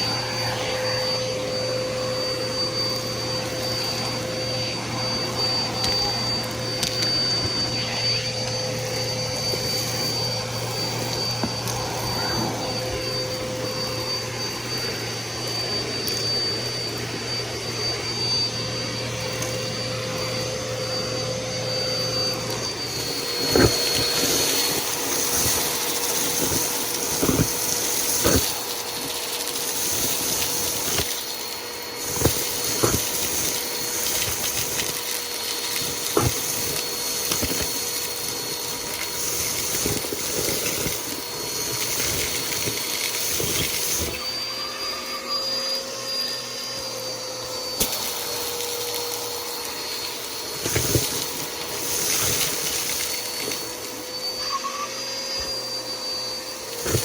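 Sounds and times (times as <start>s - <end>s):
upright vacuum running: 0.0s - 57.0s.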